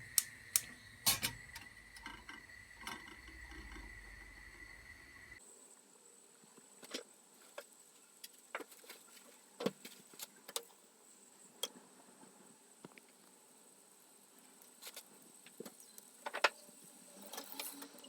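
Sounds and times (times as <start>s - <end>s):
faint high-pitched hiss: 0.0s - 18.0s.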